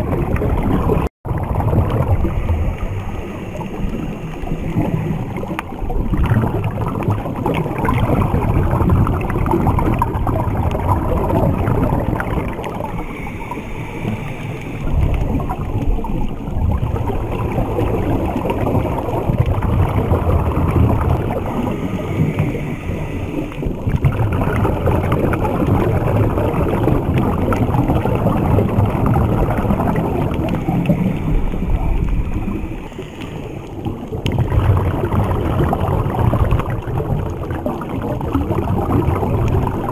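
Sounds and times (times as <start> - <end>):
diver's exhaled bubbles: 0.0 - 39.9
muffled underwater rush: 0.0 - 39.9.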